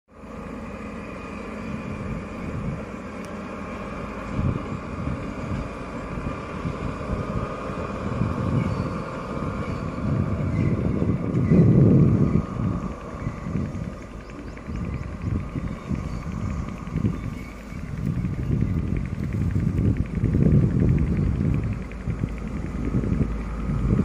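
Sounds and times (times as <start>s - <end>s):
diesel locomotive engines droning: 0.1s - 24.0s
loud low rumble: 0.8s - 24.0s.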